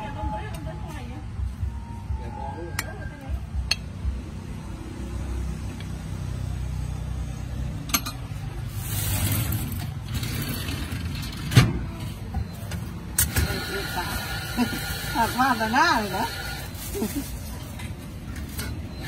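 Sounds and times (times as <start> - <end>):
passing traffic rumble: 0.0 - 19.0.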